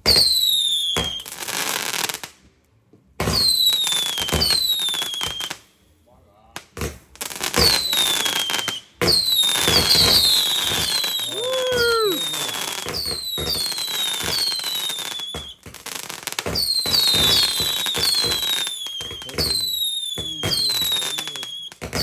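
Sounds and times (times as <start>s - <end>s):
fireworks crackling and bangs: 0.0s - 22.0s
fireworks whistles sliding down: 0.1s - 1.6s, 3.3s - 5.7s, 7.5s - 22.0s.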